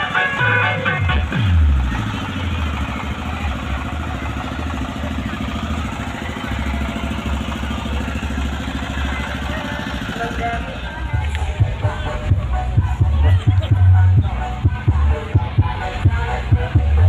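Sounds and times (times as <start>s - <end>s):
large engine idling: 0.0s - 17.0s.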